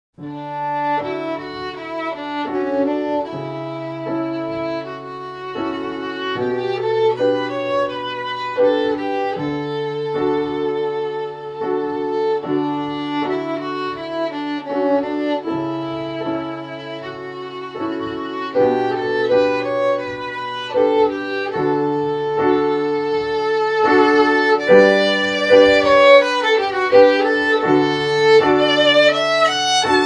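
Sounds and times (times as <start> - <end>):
violin melody: 0.2 - 30.0.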